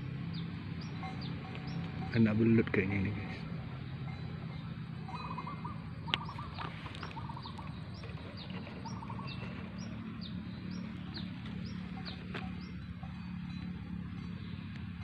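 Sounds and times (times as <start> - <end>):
lower bird trill: 0.0 - 15.0
bird chirping: 0.3 - 2.6, 3.2 - 15.0.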